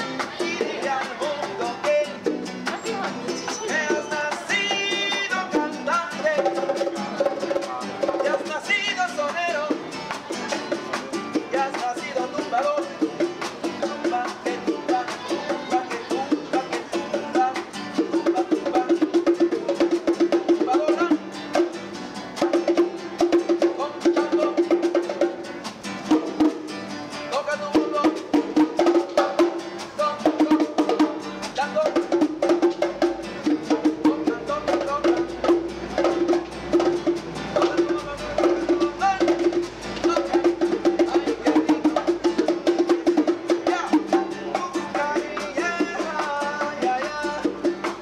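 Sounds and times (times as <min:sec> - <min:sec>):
acoustic guitar strumming: 0:00.0 - 0:48.0
bongos played by hand: 0:00.0 - 0:48.0.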